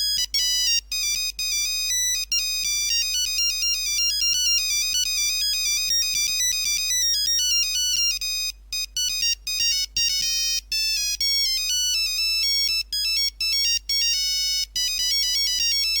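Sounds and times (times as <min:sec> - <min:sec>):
mobile phone ringtone melody: 0:00.0 - 0:16.0.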